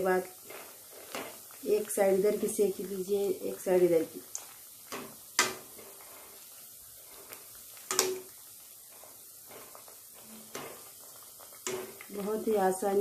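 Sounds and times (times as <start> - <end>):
bread sizzling in oil: 0.0 - 13.0.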